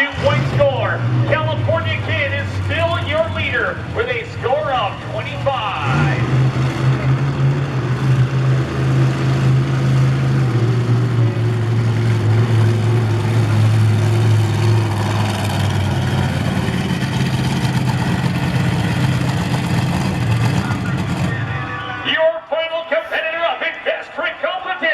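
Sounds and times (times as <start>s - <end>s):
truck engine running low revs: 0.0s - 24.9s.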